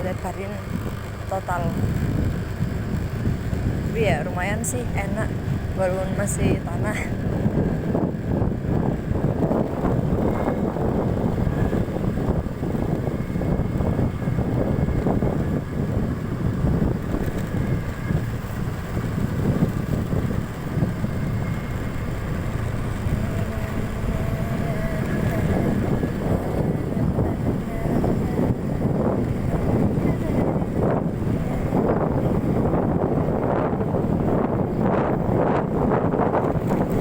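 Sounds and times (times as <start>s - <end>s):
motorcycle engine low rumble: 0.0s - 37.0s
wind buffeting microphone: 0.0s - 37.0s.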